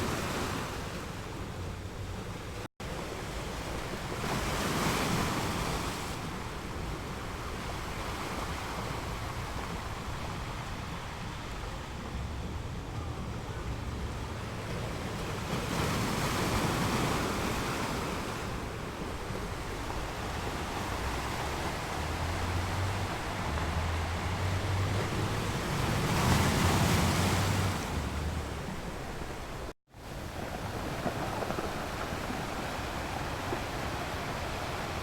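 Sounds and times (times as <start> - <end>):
sea waves washing ashore: 0.0 - 35.0.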